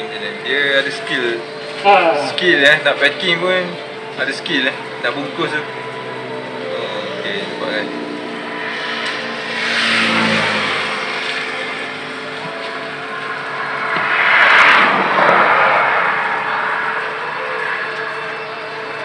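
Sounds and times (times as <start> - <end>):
steady traffic hum: 0.0 - 19.0
vehicles passing: 0.0 - 19.0.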